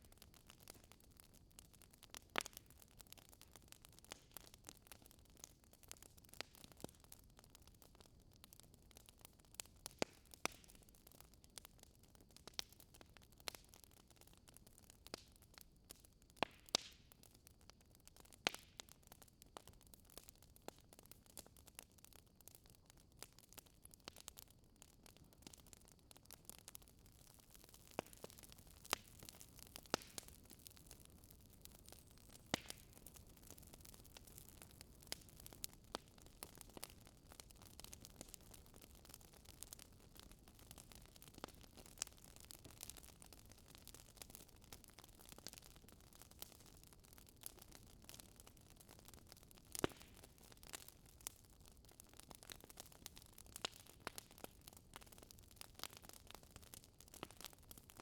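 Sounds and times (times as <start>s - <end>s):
fire crackling in fireplace: 0.0s - 58.0s.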